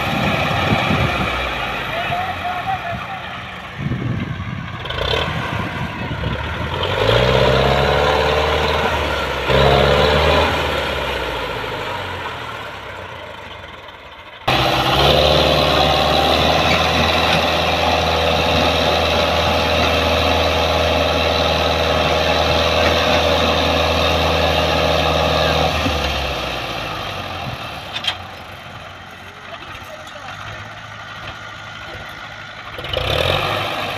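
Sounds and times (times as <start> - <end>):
tractor diesel engine labouring: 0.0 - 33.9.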